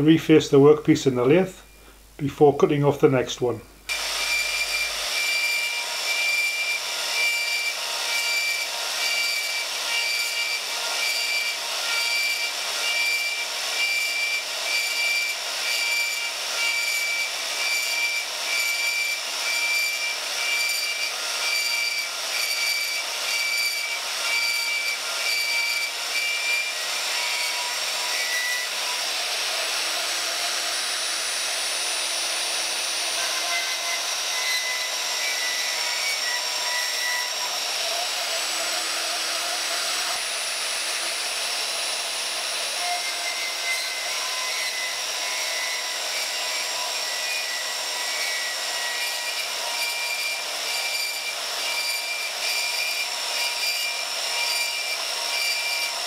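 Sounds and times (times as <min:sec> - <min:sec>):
bandsaw cutting metal: 0:03.9 - 0:56.0.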